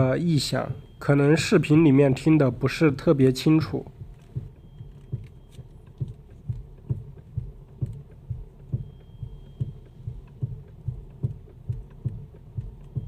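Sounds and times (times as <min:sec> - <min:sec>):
dull low knocks from steering: 0:00.0 - 0:13.0.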